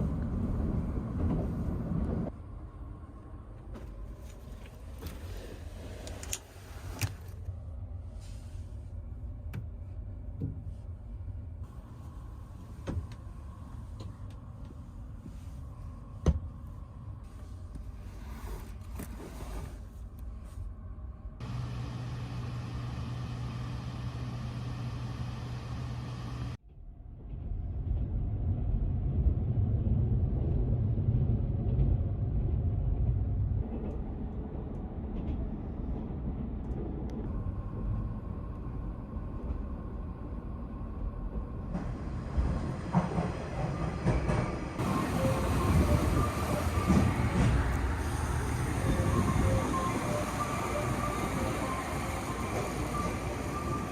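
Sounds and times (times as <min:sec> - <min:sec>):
moving train rumble: 0:00.0 - 0:53.9.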